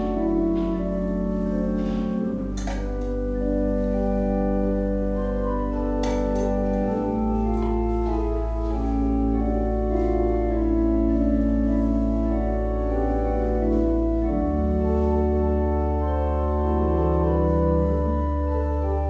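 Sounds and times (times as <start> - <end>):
church organ playing chords: 0.0 - 19.0.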